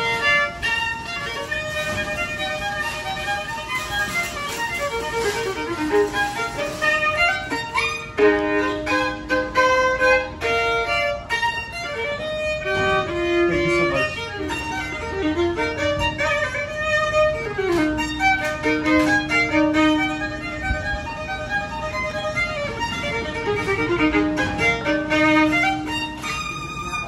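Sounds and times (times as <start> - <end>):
violin melody: 0.0 - 27.0.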